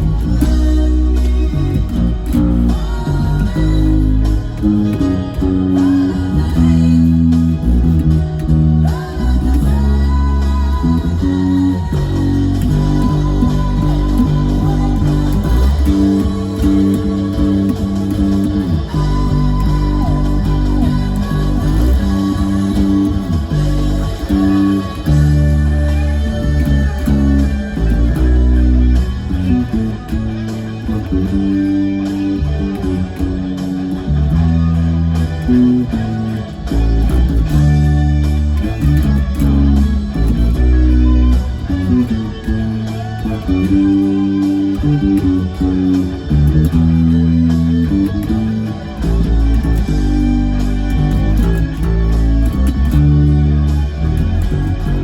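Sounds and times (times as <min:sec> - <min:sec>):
electric bass long low notes: 0:00.0 - 0:55.0
rock ballad band playing: 0:00.0 - 0:55.0.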